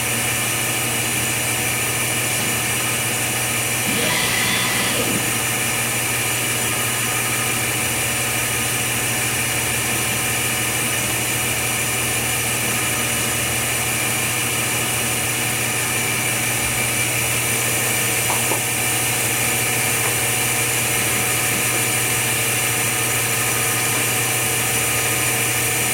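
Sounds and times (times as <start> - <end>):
machine hum with hiss: 0.0 - 25.9.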